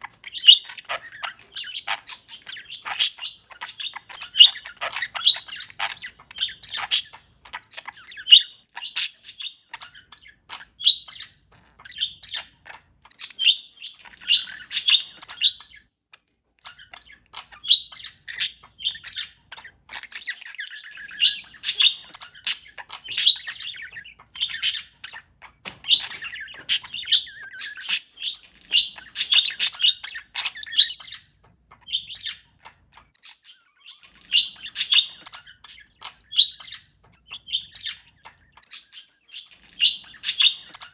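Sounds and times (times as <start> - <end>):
parakeet chirping: 0.0 - 40.9.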